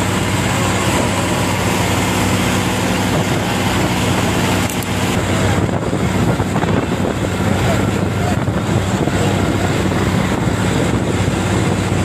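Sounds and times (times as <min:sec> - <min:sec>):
boat engine droning: 0:00.0 - 0:12.0
wind and water rushing: 0:00.0 - 0:12.0.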